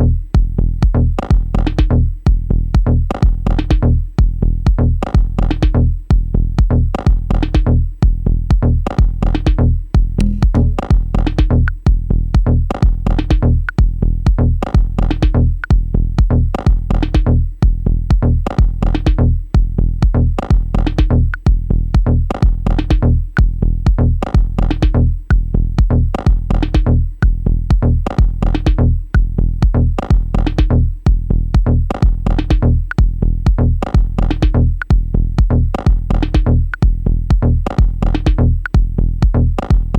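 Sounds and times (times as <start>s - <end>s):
deep bass: 0.0s - 39.9s
drum machine beat: 0.0s - 39.9s.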